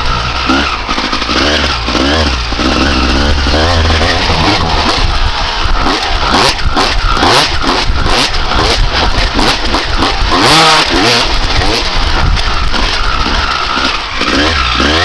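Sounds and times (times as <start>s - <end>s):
dirt bike engine revving hard: 0.0s - 15.0s.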